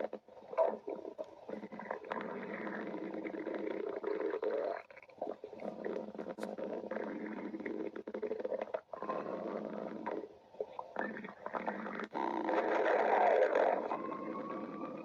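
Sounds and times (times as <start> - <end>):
stomach growling: 0.0 - 15.0.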